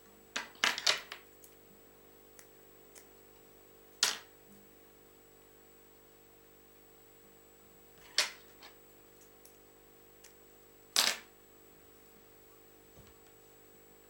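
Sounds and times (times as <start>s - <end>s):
faint mains hum: 0.0s - 14.0s.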